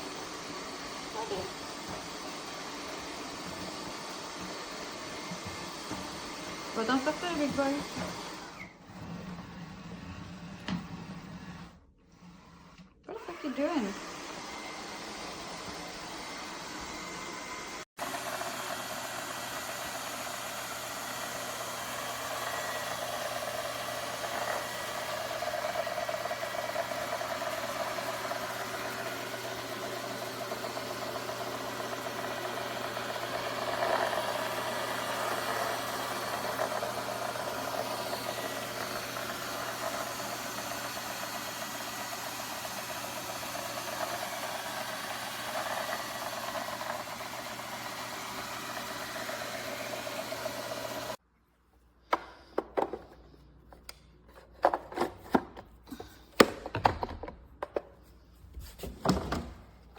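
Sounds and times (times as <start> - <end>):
robot vacuum whirring: 0.0 - 11.6, 12.3 - 51.2.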